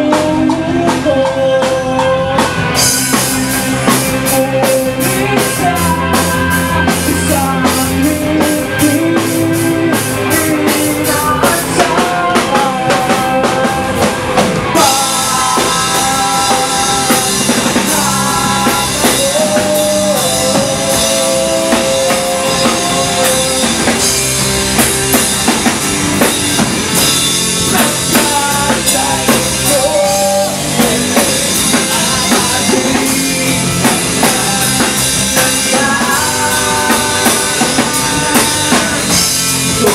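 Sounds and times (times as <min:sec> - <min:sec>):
vocals sung into microphones: 0:00.0 - 0:03.0, 0:03.9 - 0:24.2, 0:27.7 - 0:39.9
drum kit beat: 0:00.0 - 0:39.9
electric guitar: 0:00.0 - 0:39.9.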